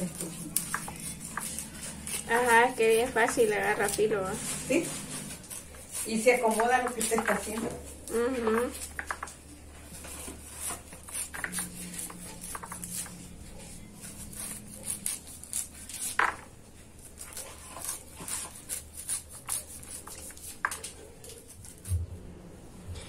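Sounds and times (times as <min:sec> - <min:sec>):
knife cutting corn kernels: 0:00.0 - 0:09.4, 0:10.0 - 0:13.3, 0:14.0 - 0:22.0.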